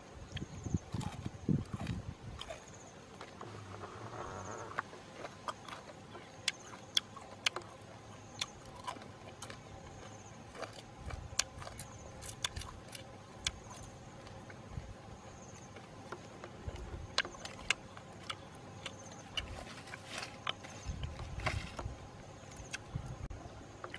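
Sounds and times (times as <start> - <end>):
faint high insect chirp: 0.0 - 1.6, 2.5 - 23.9
crunchy eating clicks and crackles: 0.0 - 23.9.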